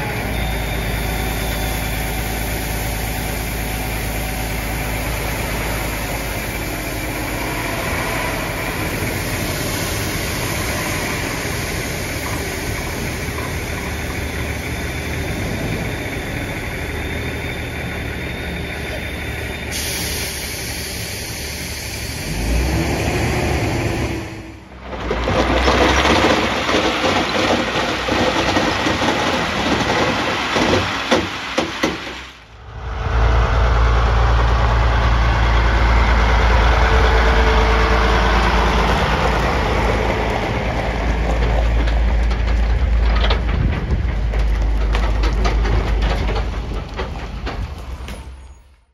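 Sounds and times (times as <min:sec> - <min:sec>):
heavy machinery working: 0:00.0 - 0:48.6
dump truck diesel engine rumble: 0:00.0 - 0:48.9.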